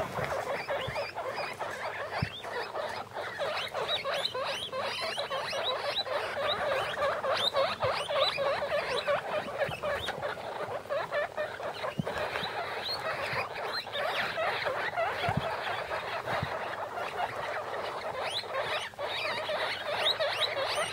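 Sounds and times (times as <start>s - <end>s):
guinea pig pups squeaking: 0.0s - 20.9s.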